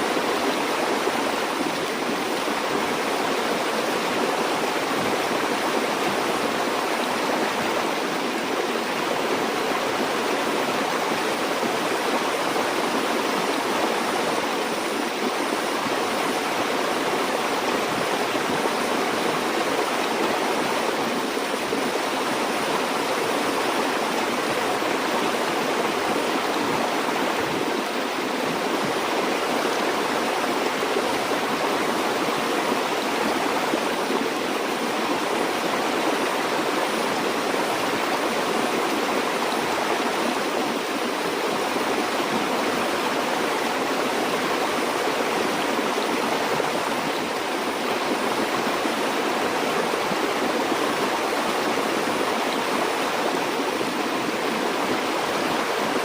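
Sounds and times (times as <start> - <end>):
stream rushing and burbling: 0.0 - 56.0.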